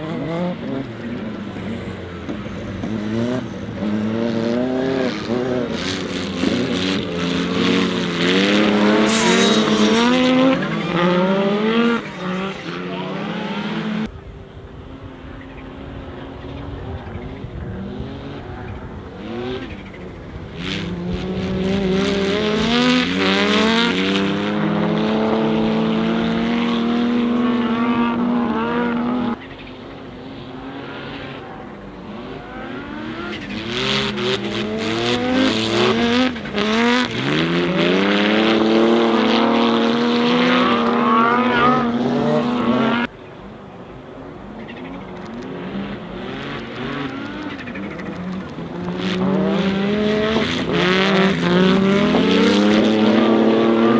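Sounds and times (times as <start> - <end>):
car engine accelerating hard: 0.0 - 53.9.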